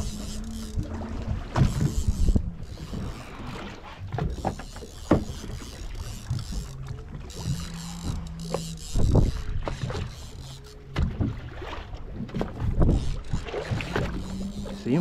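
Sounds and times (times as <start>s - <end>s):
knocks and clunks on a boat: 0.0s - 15.0s
wind and water noise: 0.0s - 15.0s.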